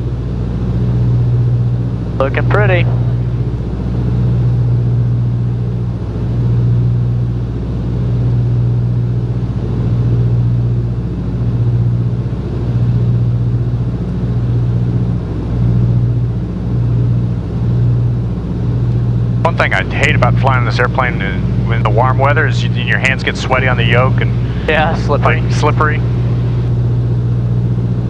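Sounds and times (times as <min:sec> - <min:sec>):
twin aircraft engines droning: 0:00.0 - 0:28.0.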